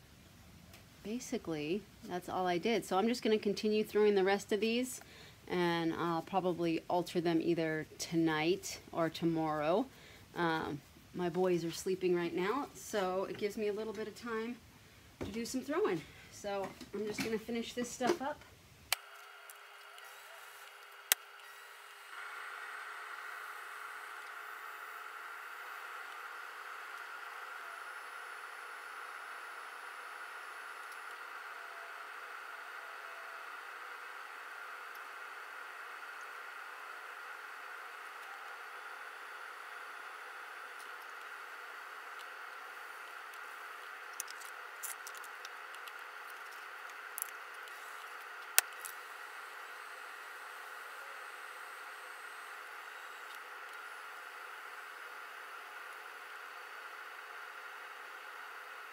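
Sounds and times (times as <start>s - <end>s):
pottery wheel hiss: 0.0s - 58.9s.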